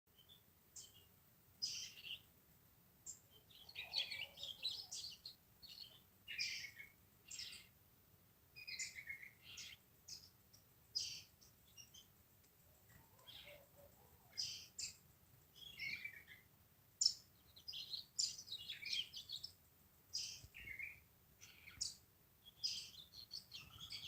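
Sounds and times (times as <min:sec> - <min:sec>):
birds chirping: 0:00.1 - 0:02.3, 0:03.0 - 0:07.8, 0:08.6 - 0:24.0.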